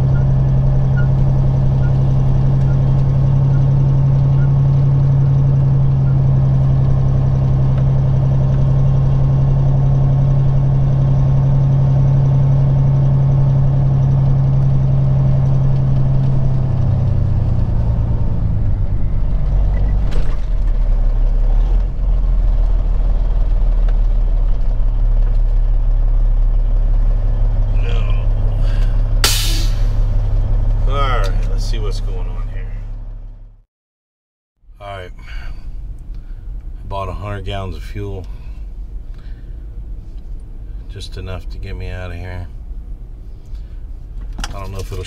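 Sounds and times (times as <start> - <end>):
truck diesel engine droning: 0.0 - 33.6, 34.8 - 45.0.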